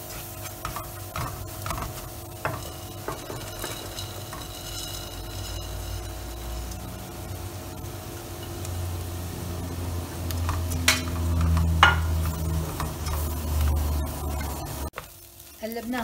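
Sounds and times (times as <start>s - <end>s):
spatula scraping a pot: 0.0s - 8.6s, 10.4s - 15.0s
onions sizzling in oil: 0.0s - 16.0s.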